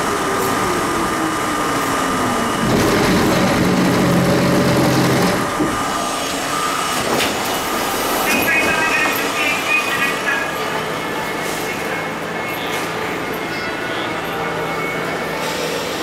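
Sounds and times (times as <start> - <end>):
subway train motors whining down: 0.0 - 16.0
mechanical hum with air rush: 1.8 - 9.6, 10.6 - 16.0.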